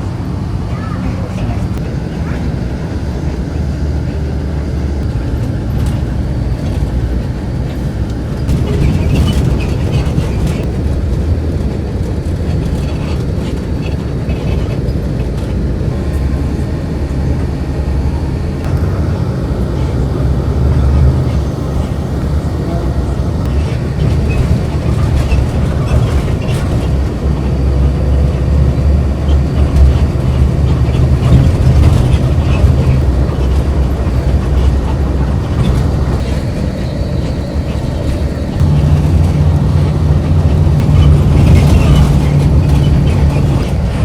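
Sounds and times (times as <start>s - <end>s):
vehicle rumble from inside: 0.0s - 44.0s.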